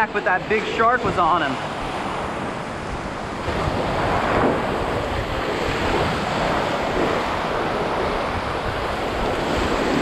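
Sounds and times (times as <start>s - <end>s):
ocean surf rushing: 0.0s - 10.0s
wind buffeting microphone: 0.0s - 10.0s.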